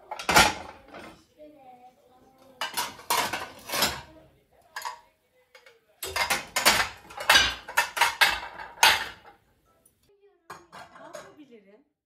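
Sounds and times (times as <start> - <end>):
dishes and cutlery clattering: 0.0 - 1.3, 2.4 - 9.9, 10.5 - 11.5.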